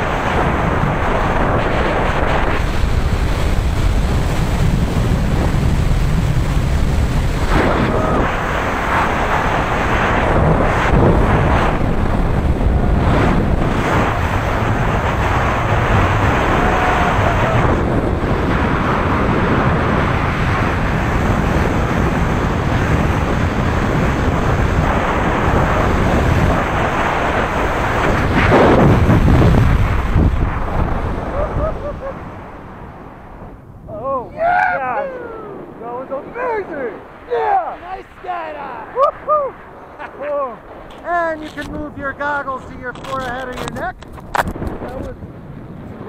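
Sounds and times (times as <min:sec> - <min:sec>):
wind rushing over microphone: 0:00.0 - 0:46.0.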